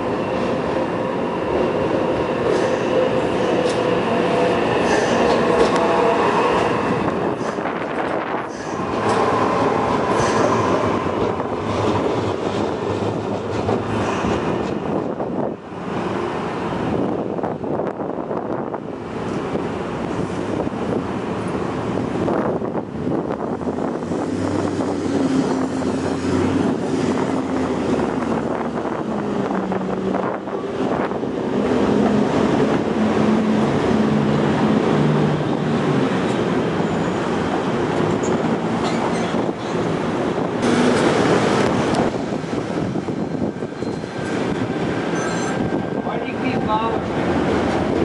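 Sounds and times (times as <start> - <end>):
light rail drive humming: 0.0 - 48.0
street traffic: 0.0 - 48.0
wheels rumbling on rails: 0.0 - 48.0.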